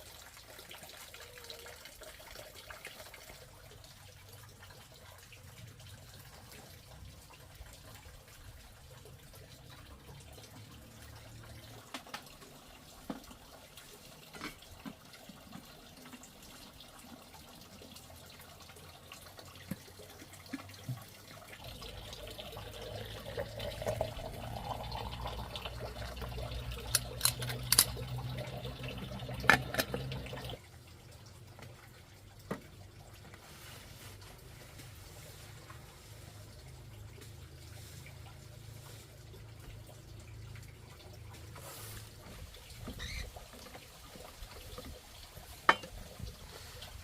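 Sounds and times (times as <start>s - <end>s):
water pouring into container: 0.0s - 47.0s.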